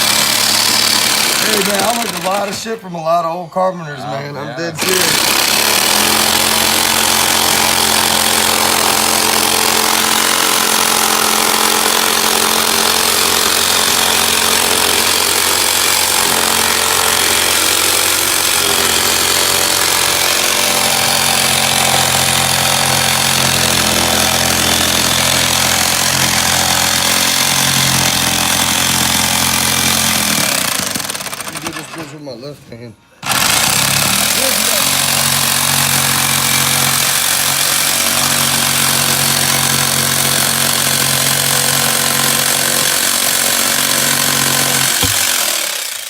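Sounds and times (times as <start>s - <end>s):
jigsaw cutting wood: 0.0s - 2.7s, 4.7s - 32.2s, 33.2s - 46.0s.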